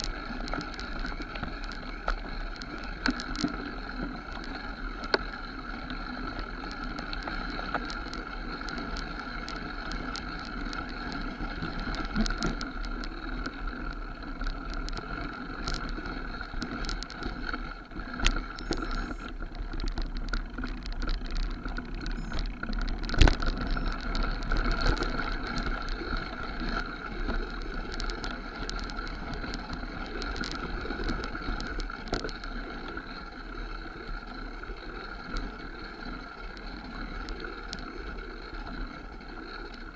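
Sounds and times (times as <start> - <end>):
bike rattling and clicking: 0.0 - 39.9
bike tyres rolling over dirt: 0.0 - 39.9.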